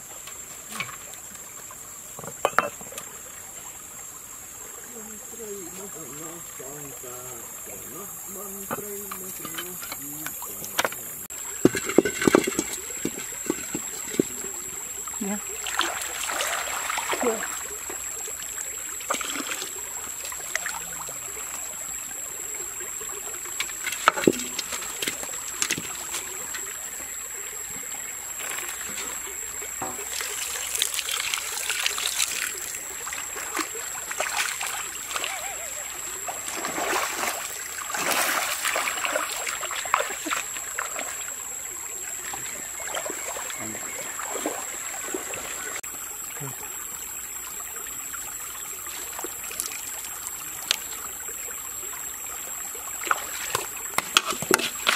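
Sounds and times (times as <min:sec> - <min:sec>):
stream water trickling: 0:00.0 - 0:54.9.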